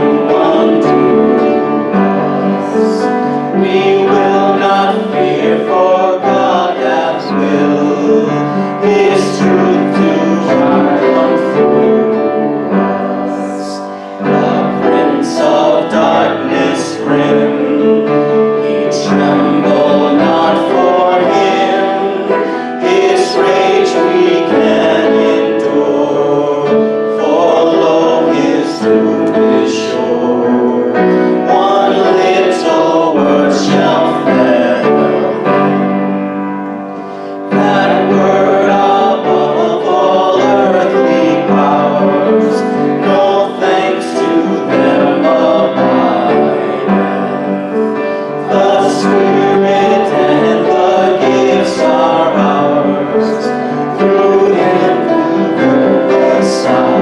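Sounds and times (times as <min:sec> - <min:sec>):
choir singing: 0:00.0 - 0:57.0
piano accompaniment: 0:00.0 - 0:57.0.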